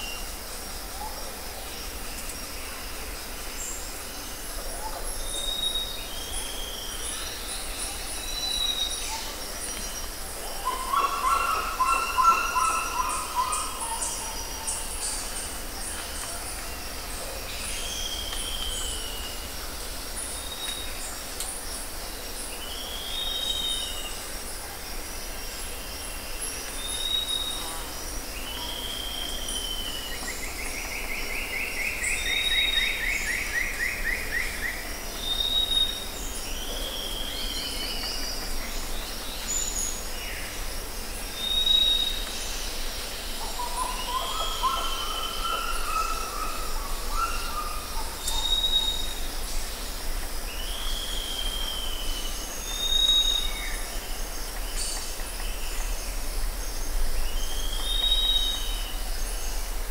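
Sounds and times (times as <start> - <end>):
high hiss of insects: 0.0 - 59.9
rainforest birds calling: 0.0 - 59.9.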